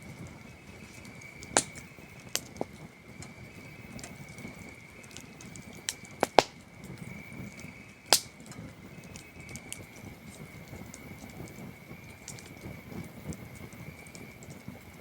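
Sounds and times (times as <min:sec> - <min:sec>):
campfire crackling and popping: 0:00.0 - 0:15.0
crickets trilling: 0:00.0 - 0:15.0.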